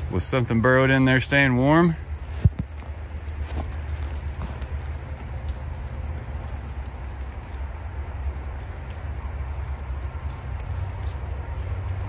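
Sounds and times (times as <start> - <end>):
patter of falling rain: 0.0 - 12.0
wind rumble on microphone: 1.6 - 12.0.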